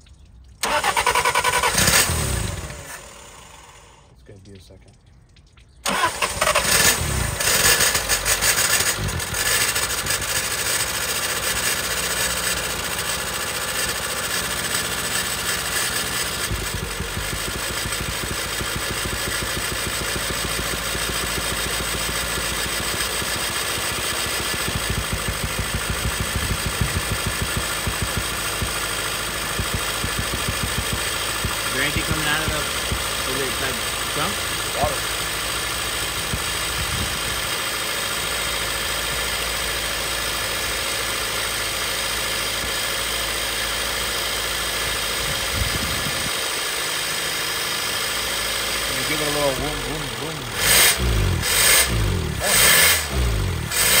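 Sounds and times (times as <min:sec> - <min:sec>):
car engine starting and revving: 0:00.6 - 0:04.0, 0:05.8 - 0:54.0.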